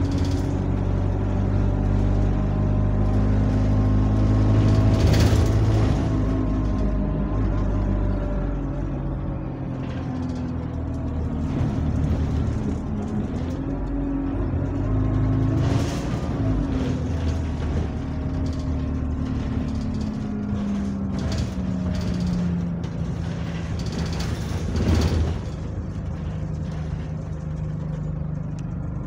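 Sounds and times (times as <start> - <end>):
bus engine running: 0.0 - 29.0.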